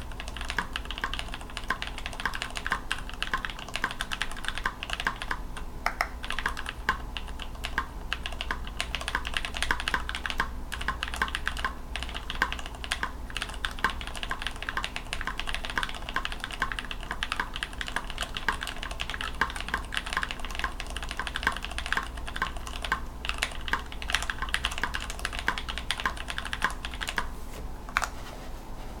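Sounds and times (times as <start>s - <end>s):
mechanical keyboard typing: 0.0s - 27.3s.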